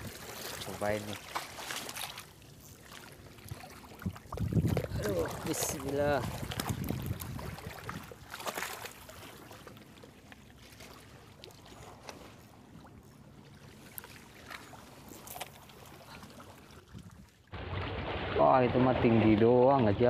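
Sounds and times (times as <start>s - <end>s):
small splashes: 0.0s - 19.9s
sea water lapping: 0.0s - 20.0s.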